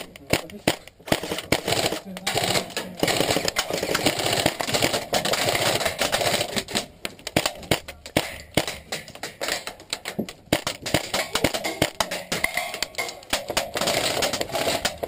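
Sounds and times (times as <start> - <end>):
airsoft gunfire rattle: 0.0 - 15.0
sharp cracks of pellets striking: 0.0 - 15.0.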